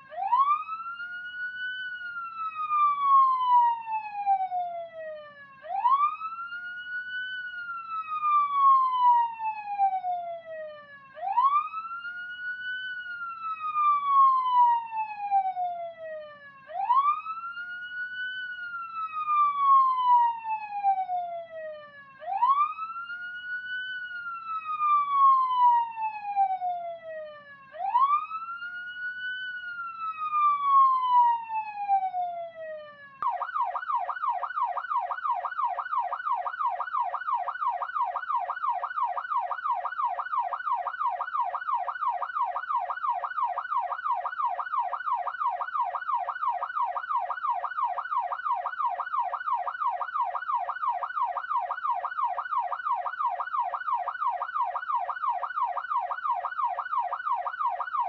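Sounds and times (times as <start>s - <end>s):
police siren wailing and yelping: 0.0s - 58.0s.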